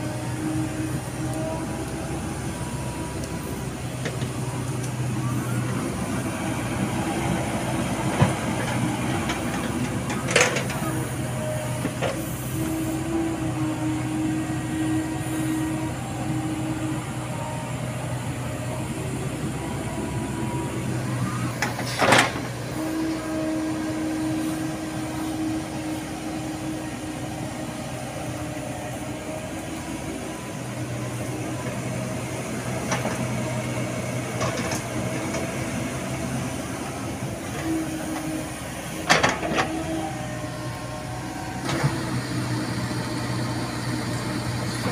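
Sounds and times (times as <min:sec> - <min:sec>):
hydraulic excavator digging: 0:00.0 - 0:44.9.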